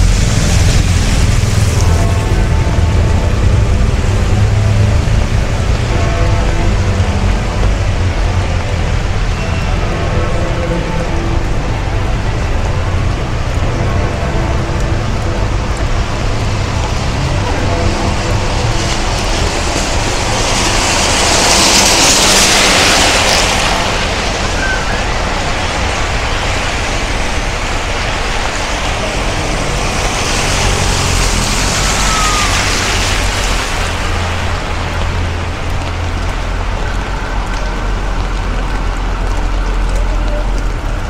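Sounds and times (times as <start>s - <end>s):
tyres hissing on wet road: 0.0s - 41.0s.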